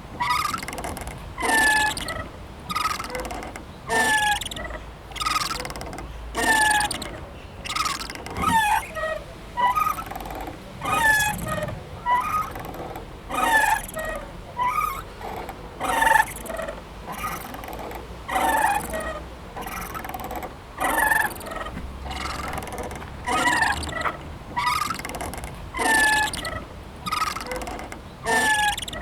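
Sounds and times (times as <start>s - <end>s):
swing squeaking: 0.0s - 29.0s.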